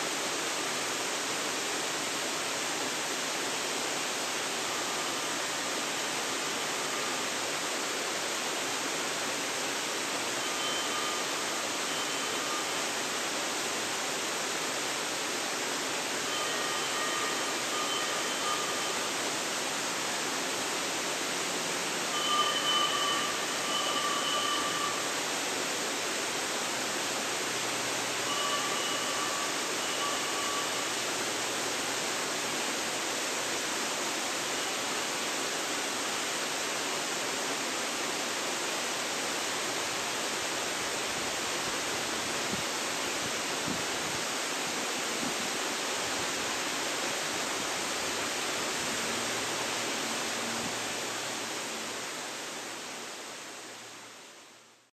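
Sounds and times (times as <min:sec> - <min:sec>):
waterfall rushing: 0:00.0 - 0:54.6.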